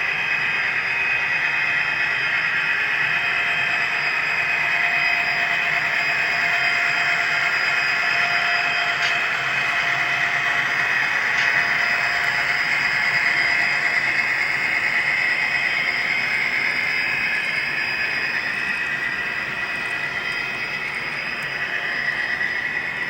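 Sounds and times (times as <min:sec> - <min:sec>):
model train mechanical hum: 0:00.0 - 0:23.0.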